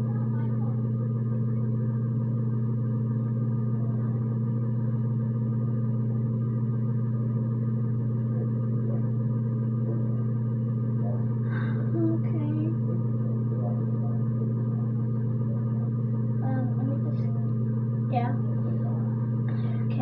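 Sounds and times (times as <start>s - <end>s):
low buzzy electrical hum: 0.0s - 20.0s.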